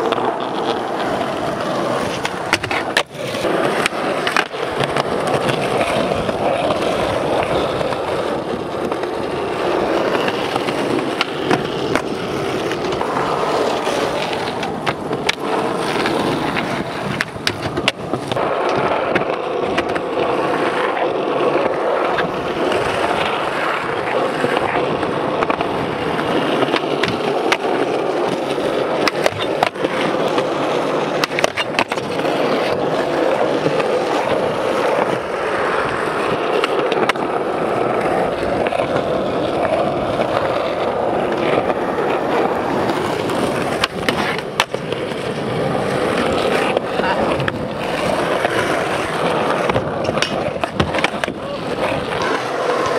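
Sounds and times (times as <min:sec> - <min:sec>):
skateboard popping and landing: 0:00.0 - 0:52.9
skateboard wheels rolling on concrete: 0:00.0 - 0:52.9.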